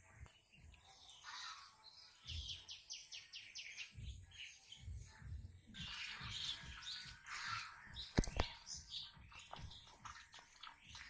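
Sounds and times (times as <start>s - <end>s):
small bird chirping: 0.2s - 11.0s.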